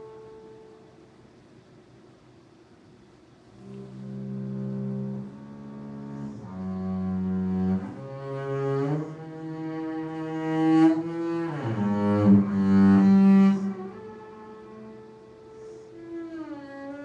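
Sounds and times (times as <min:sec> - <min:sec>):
solo instrument long held notes: 0:00.0 - 0:01.8, 0:03.2 - 0:17.0.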